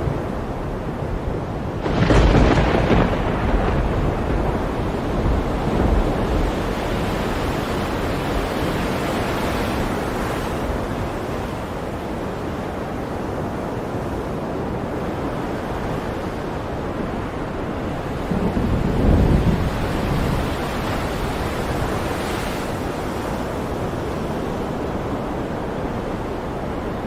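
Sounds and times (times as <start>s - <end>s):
strong wind: 0.0s - 27.0s
waves breaking: 0.0s - 27.0s.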